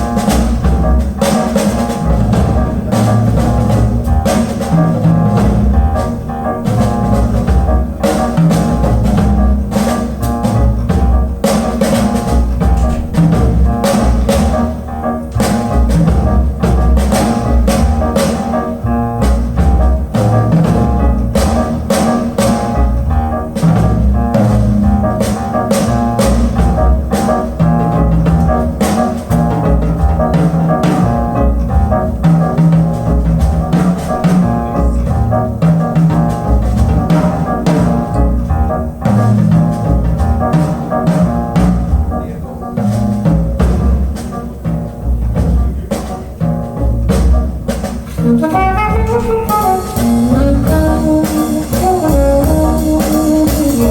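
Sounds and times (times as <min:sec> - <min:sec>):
jazz drum kit: 0:00.0 - 0:53.9
walking double bass line: 0:00.0 - 0:53.9.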